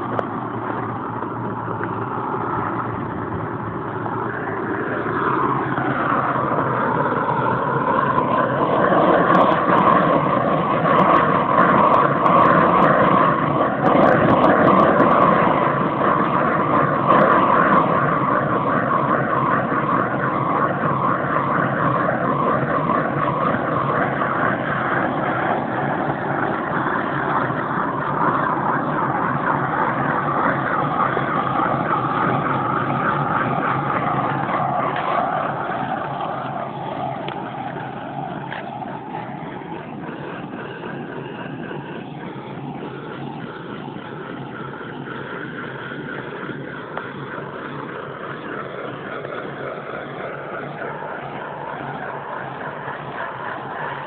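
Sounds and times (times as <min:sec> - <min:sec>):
power sprayer motor running: 0:00.0 - 0:54.0.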